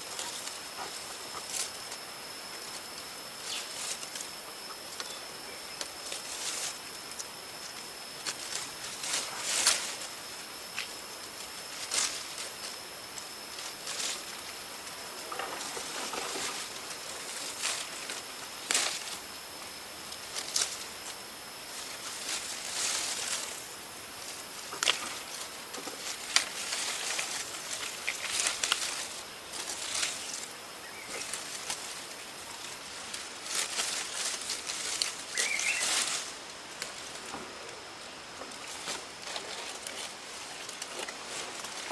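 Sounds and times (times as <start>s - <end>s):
leaves and twigs rustling: 0.0s - 41.9s.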